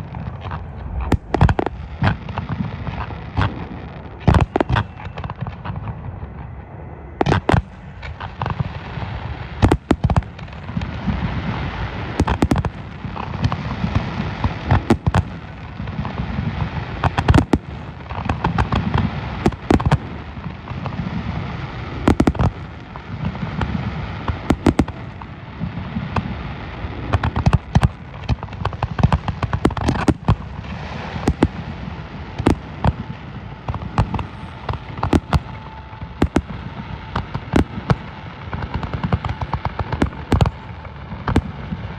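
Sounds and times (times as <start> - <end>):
firework bursts and cracks: 0.0 - 5.9, 7.2 - 41.9
rumble of firework booms: 0.0 - 6.5, 7.2 - 41.9.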